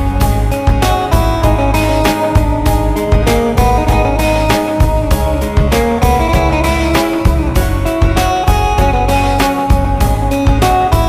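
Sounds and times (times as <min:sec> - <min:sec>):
slow pop song instrumental: 0:00.0 - 0:11.0.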